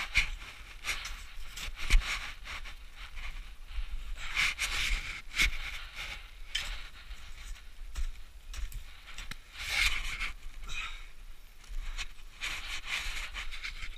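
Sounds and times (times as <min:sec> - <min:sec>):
soft crunches in snow: 0:00.0 - 0:10.7, 0:11.5 - 0:13.9.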